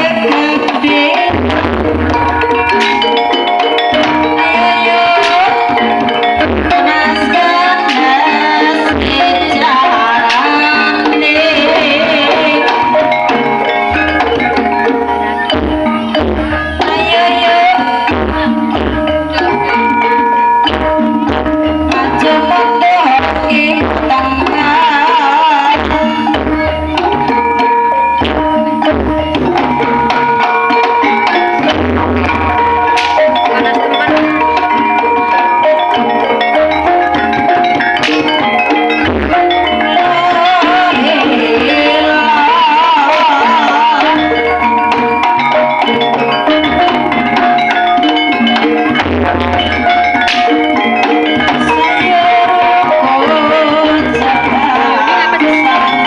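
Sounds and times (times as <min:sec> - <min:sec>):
hand-drum strokes: 0:00.0 - 0:56.0
ringing metallophone notes: 0:00.0 - 0:56.0
sustained melodic tones: 0:00.0 - 0:56.0
wavering melody line: 0:00.0 - 0:56.0.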